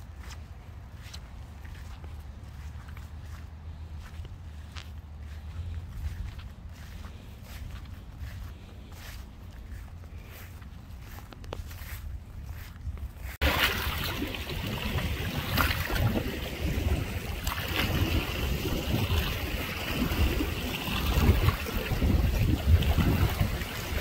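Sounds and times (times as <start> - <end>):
wind rumbling on microphone: 1.4 - 24.0.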